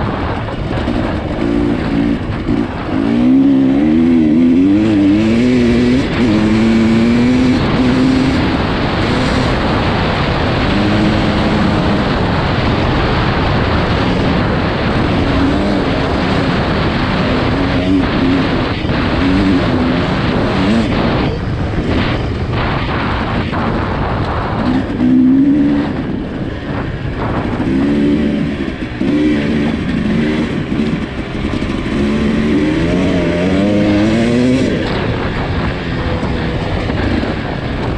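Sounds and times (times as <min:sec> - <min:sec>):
two-stroke motorcycle engine revving: 0:00.0 - 0:37.9.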